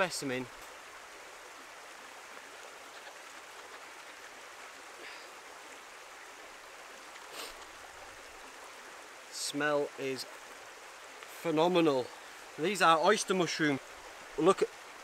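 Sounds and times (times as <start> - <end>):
woodland stream rushing: 0.0 - 15.0.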